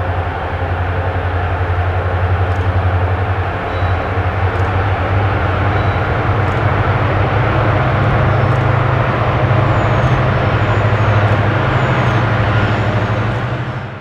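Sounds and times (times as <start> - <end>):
diesel locomotive engine drone: 0.0 - 14.0
loud mechanical noise: 0.0 - 14.0.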